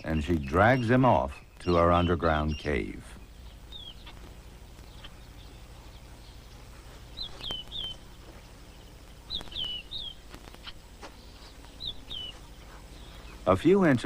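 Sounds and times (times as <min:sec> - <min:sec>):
bird chirping: 0:00.0 - 0:14.0
steady low hum: 0:00.0 - 0:14.0.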